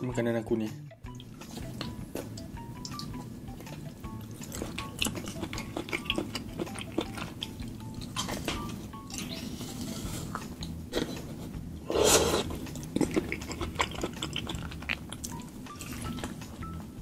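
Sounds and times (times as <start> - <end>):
chewing and biting: 1.2 - 11.1, 12.1 - 16.6.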